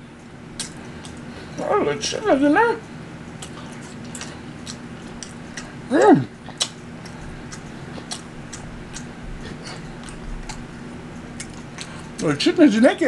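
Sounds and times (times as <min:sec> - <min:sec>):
person chewing with wet smacking: 0:00.1 - 0:12.7.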